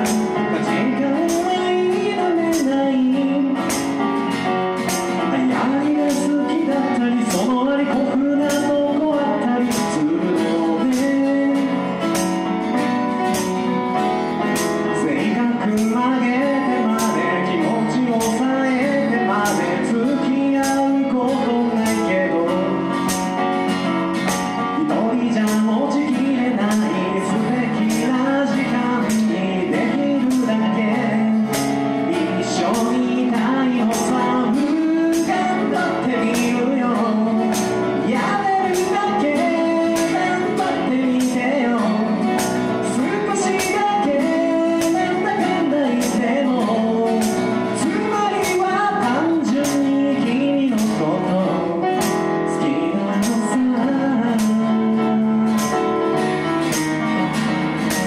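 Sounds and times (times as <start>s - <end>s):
person singing: 0.0s - 57.0s
keyboard playing: 0.0s - 58.0s
strummed acoustic guitar: 0.0s - 58.0s.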